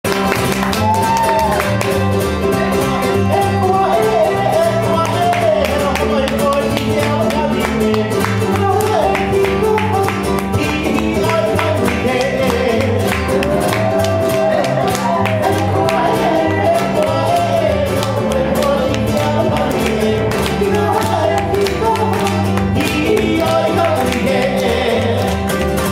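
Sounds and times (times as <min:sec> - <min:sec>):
plucked upright bass: 0:00.0 - 0:25.9
ukulele strumming: 0:00.0 - 0:25.9.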